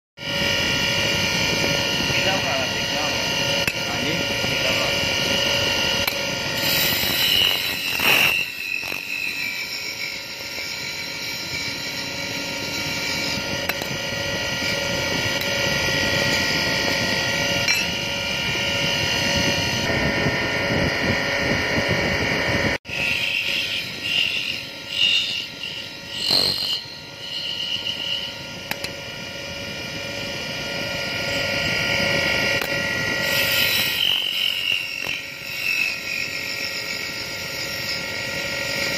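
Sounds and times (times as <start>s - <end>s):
steel tool cutting spinning wood: 0.2s - 38.9s
wood lathe motor whine: 0.2s - 38.9s.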